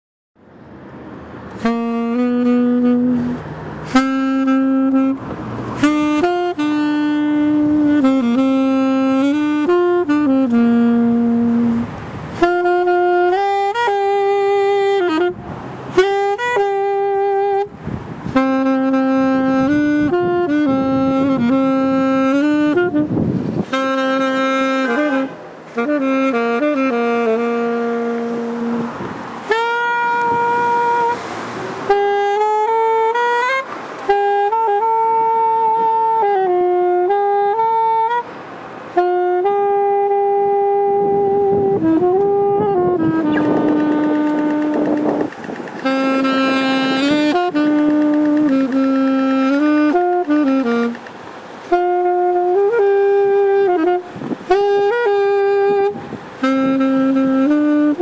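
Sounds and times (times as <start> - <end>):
saxophone melody: 0.9 - 58.0.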